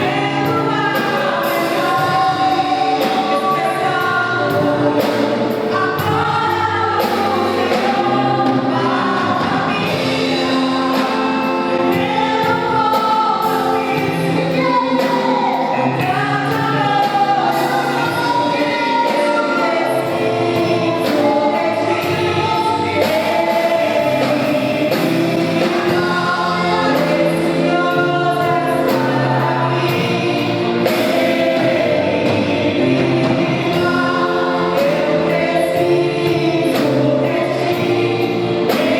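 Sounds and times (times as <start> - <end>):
choir singing with a band: 0.0 - 38.9
drums beat: 0.0 - 38.9.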